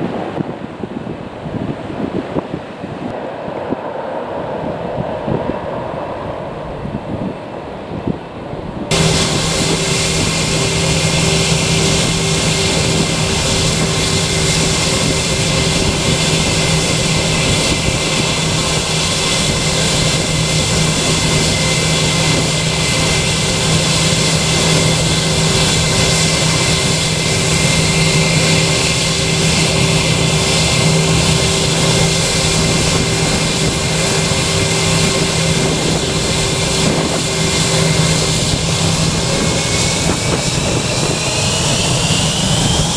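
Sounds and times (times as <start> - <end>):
aircraft engines whining: 0.0 - 42.9.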